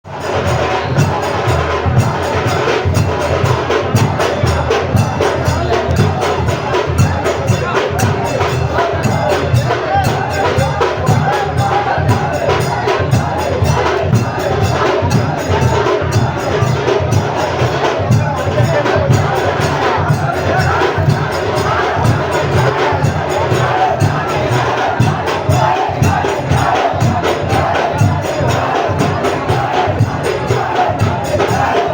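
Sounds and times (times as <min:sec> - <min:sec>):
crowd voices: 0:00.0 - 0:31.9
drums beating fast rhythm: 0:00.0 - 0:31.9.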